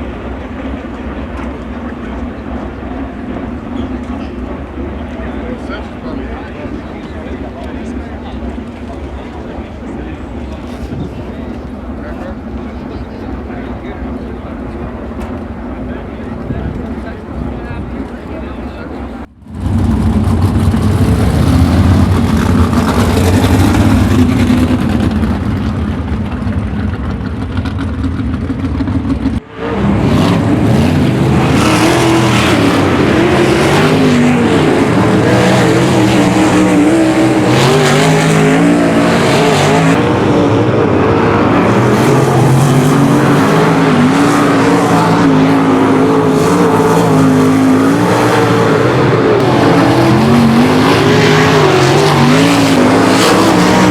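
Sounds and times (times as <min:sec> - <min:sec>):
low steady engine sound: 0:00.0 - 0:48.1
race cars passing at speed: 0:00.0 - 0:53.9.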